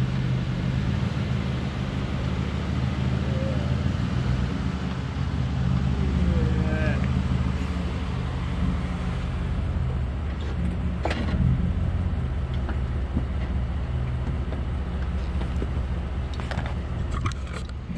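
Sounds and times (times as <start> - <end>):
truck engine running at low speed: 0.0 - 17.9.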